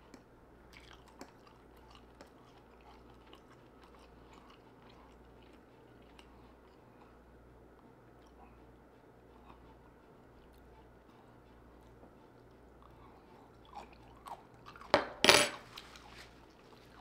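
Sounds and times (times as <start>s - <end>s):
crunchy chewing of broccoli: 0.0s - 14.9s.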